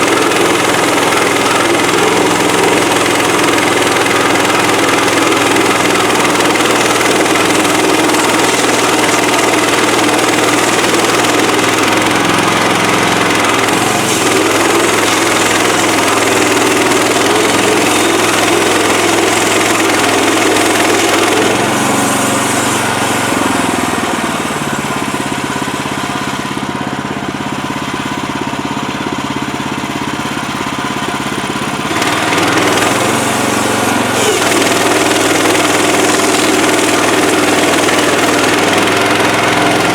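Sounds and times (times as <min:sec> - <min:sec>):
petrol engine running: 0:00.0 - 0:39.9.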